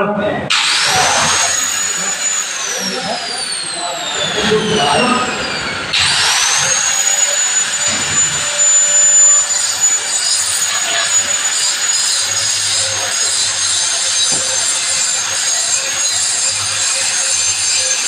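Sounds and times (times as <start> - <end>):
hand saw cutting: 0.5 - 18.0.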